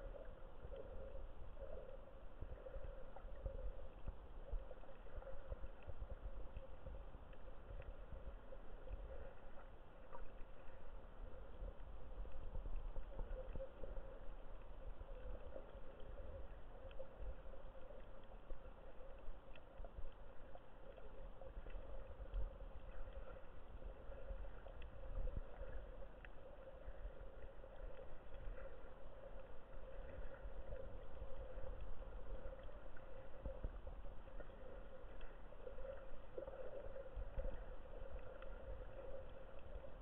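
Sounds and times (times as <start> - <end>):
faint clicks: 0.0 - 40.0
muffled underwater hum: 0.0 - 40.0.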